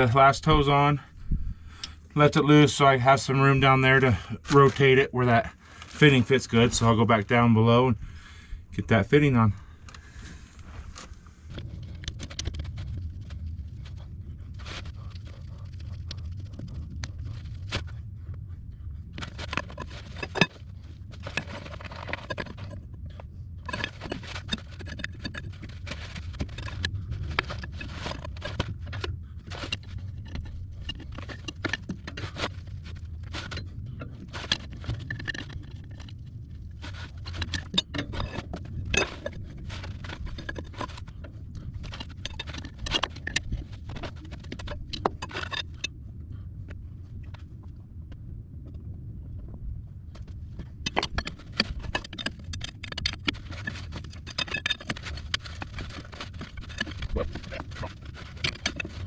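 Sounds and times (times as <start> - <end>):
steady low rumble: 0.0 - 59.0.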